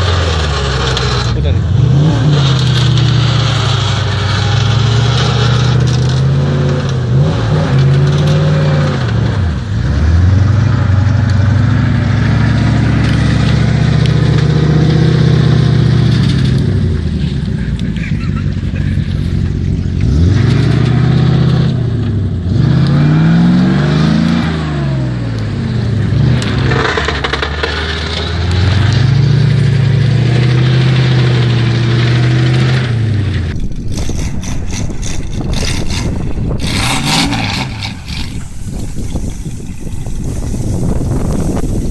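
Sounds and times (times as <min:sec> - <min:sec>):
truck engine revving hard: 0:00.0 - 0:41.9.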